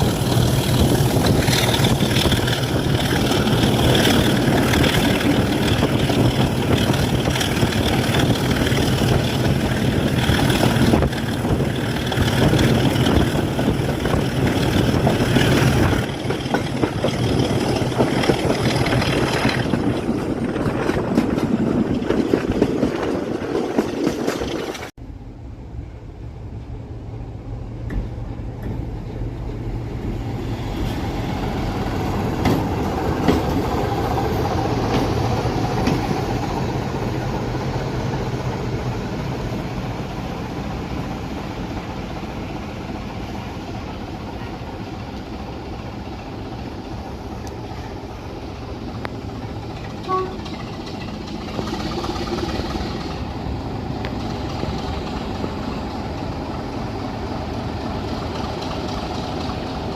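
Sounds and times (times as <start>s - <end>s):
train running on the line: 0.0s - 59.9s.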